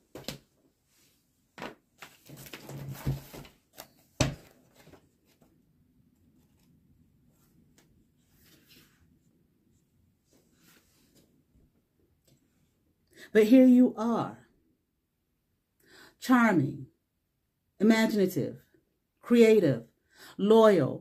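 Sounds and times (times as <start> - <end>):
faint low background noise: 0.0 - 21.0.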